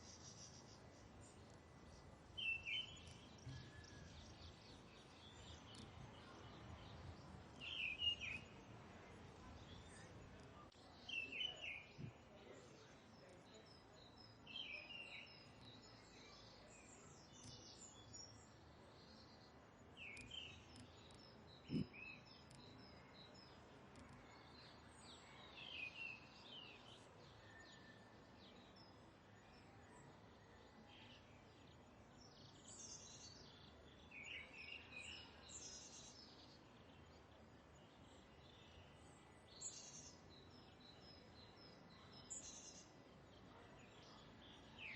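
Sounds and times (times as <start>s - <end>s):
faint background hiss: 0.0s - 44.9s.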